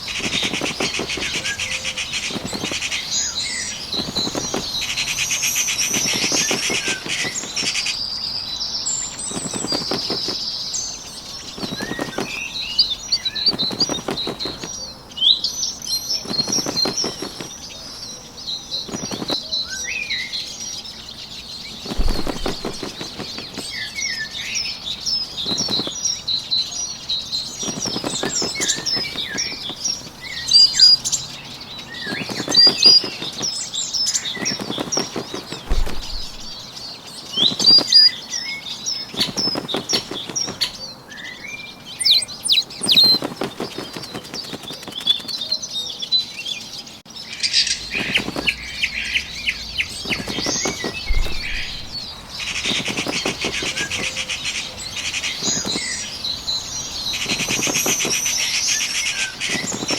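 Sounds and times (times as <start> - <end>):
bird wings flapping: 0.0 - 8.1, 8.9 - 19.9, 21.3 - 26.3, 27.2 - 41.0, 42.0 - 45.6, 47.7 - 59.9
small birds chirping: 0.0 - 59.9.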